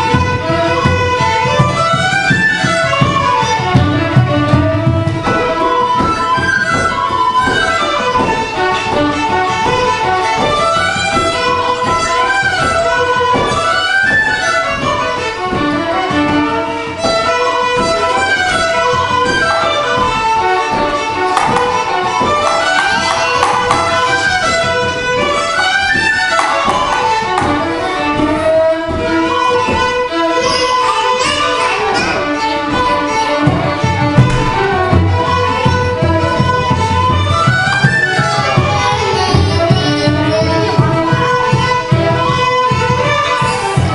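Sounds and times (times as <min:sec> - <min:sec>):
fiddle playing fast reel: 0:00.0 - 0:43.9.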